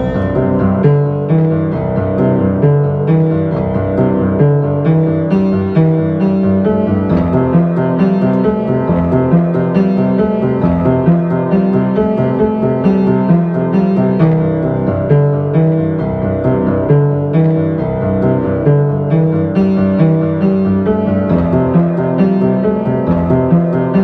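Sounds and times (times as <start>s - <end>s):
solo piano playing: 0.0s - 24.0s.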